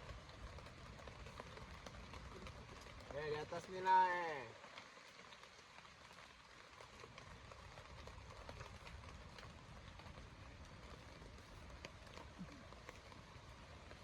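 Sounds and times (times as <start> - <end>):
light rain hissing: 0.0 - 14.0
raindrop ticks: 0.0 - 14.0.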